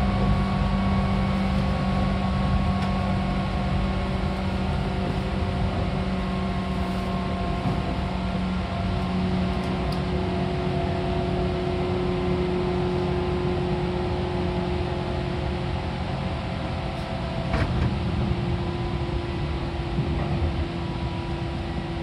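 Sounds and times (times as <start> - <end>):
train running gear hum: 0.0 - 22.0
train wheels rumbling on rail: 0.0 - 22.0.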